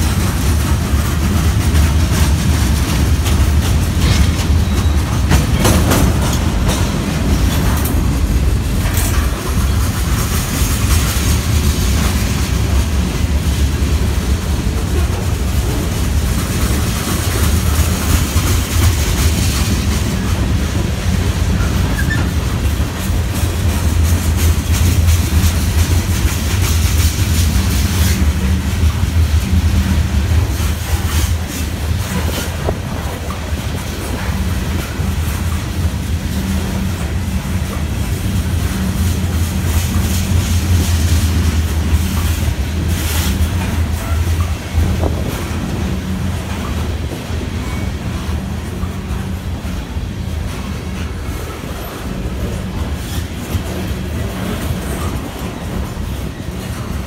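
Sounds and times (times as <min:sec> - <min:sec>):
freight train rumble: 0:00.0 - 0:57.0
wheels clicking over rail joints: 0:00.0 - 0:57.0.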